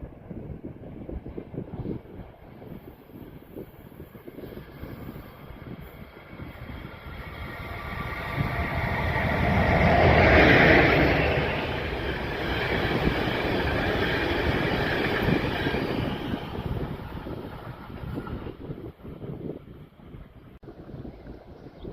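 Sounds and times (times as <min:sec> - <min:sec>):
train passing with high whine: 0:00.0 - 0:21.6.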